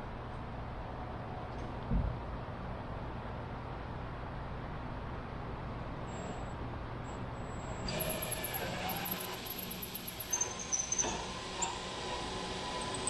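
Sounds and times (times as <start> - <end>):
low shop hum: 0.0 - 13.0.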